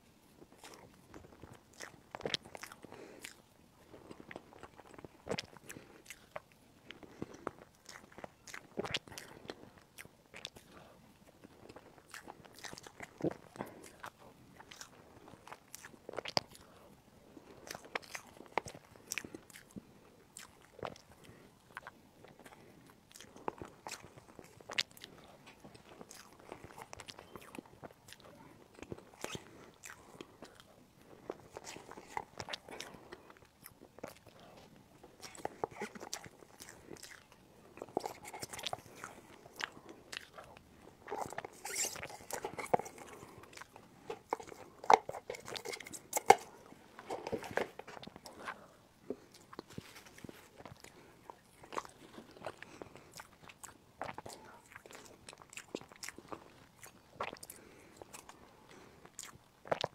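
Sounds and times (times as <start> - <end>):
chewing cream cake: 0.0 - 59.9.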